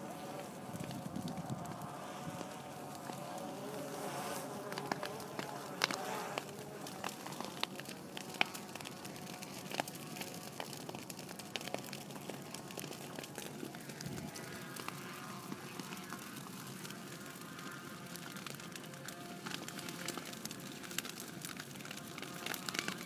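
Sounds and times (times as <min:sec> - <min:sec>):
low rushing of fire: 0:00.0 - 0:22.8
burning grass crackling: 0:00.0 - 0:23.0.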